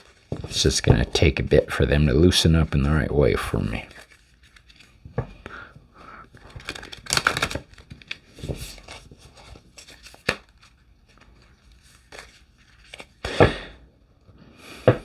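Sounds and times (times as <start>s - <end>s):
cards being shuffled: 0.0s - 5.5s, 6.2s - 13.4s.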